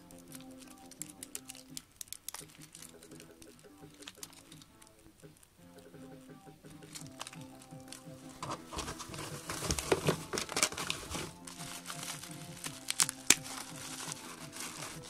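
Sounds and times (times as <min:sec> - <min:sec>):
background music: 0:00.0 - 0:15.0
plastic packaging crinkling: 0:00.1 - 0:05.5, 0:06.7 - 0:15.0.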